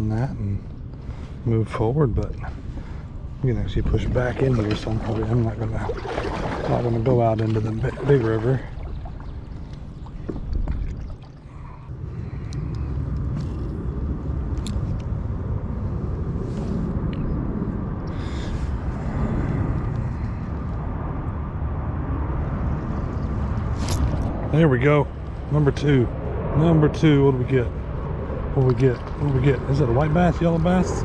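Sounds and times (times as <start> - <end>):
wind rumble on microphone: 0.0 - 31.0.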